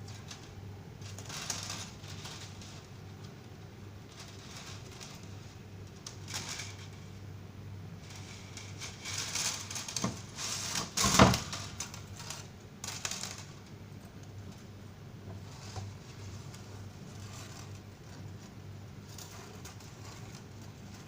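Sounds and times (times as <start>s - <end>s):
scraping and rustling: 0.0s - 7.3s, 7.9s - 21.0s.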